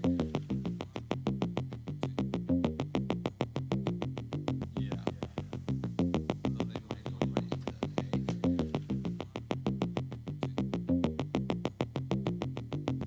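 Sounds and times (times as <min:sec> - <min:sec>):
drum machine beat: 0:00.0 - 0:13.0
synthesizer bass line: 0:00.0 - 0:13.0.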